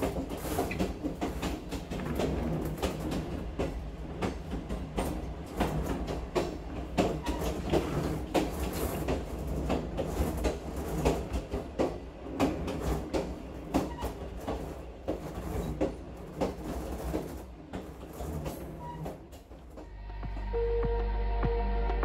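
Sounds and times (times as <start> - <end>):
wheels clacking and rattling: 0.0 - 19.9
train low rumble: 0.0 - 22.0.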